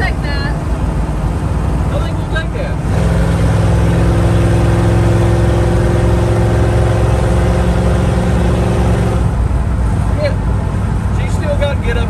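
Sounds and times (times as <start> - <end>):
road and wind noise: 0.0 - 12.0
truck engine drone: 0.0 - 12.0.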